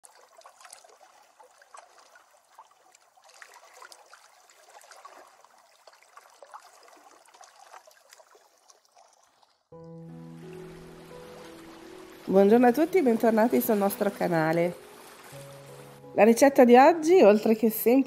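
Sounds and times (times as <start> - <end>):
water lapping at shore: 0.0 - 16.2.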